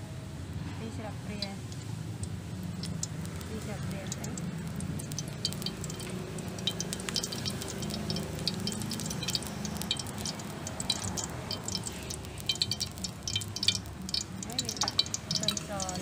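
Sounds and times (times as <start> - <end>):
low steady hum: 0.0 - 16.0
oil crackling in wok: 1.4 - 16.0.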